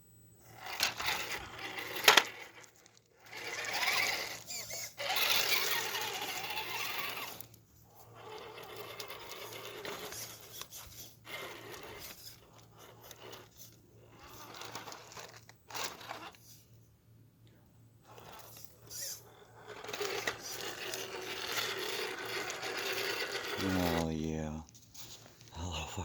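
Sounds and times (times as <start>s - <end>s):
toy car electric motor whining: 0.4s - 16.6s, 18.0s - 24.1s.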